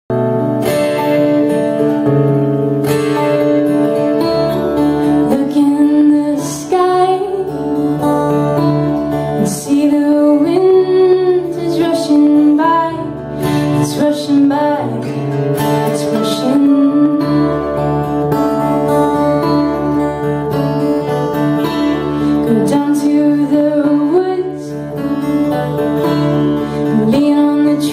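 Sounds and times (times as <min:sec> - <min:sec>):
acoustic guitars playing: 0:00.1 - 0:27.9
woman singing: 0:03.2 - 0:20.8, 0:21.6 - 0:27.9.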